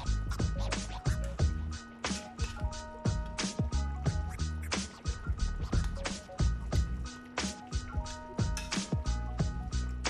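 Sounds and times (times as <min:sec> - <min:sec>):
held keyboard notes: 0:00.0 - 0:10.0
steady drum beat: 0:00.0 - 0:10.0.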